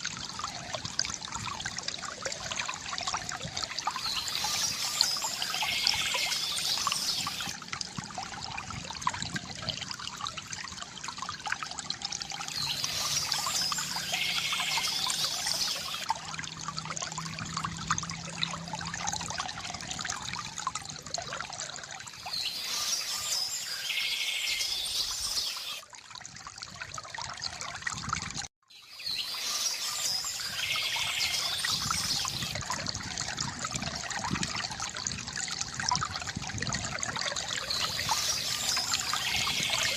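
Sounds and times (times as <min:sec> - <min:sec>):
water trickling from fountain: 0:00.0 - 0:39.9.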